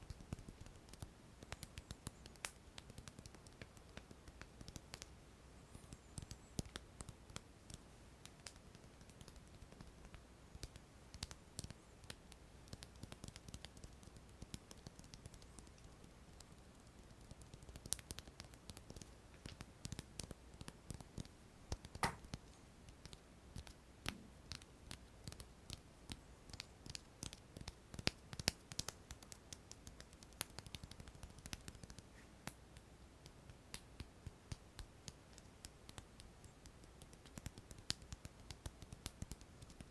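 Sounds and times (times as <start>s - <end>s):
fingers tapping and clicking: 0.0s - 5.1s, 5.7s - 32.0s, 33.2s - 39.9s.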